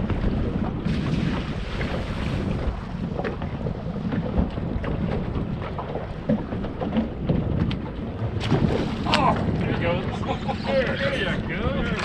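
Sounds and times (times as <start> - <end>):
water against boat hull: 0.0 - 12.0
wind buffeting microphone: 0.0 - 12.0.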